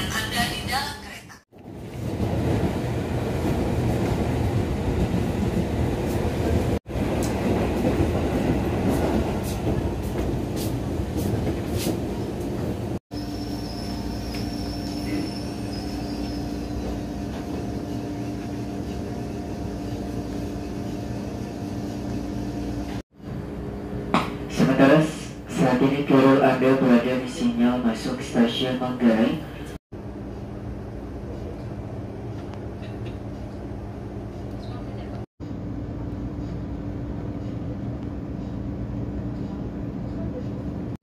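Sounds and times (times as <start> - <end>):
train running rumble: 1.6 - 41.0.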